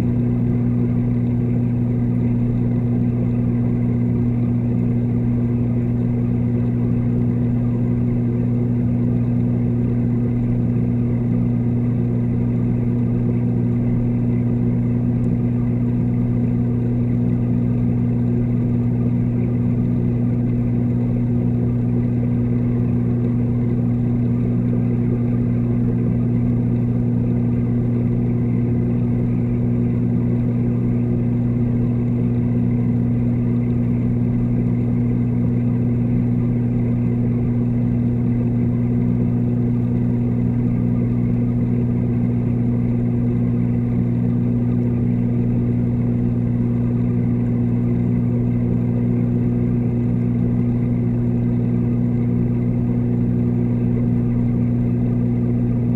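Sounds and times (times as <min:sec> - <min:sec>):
electrical pump hum underwater: 0:00.0 - 0:55.9.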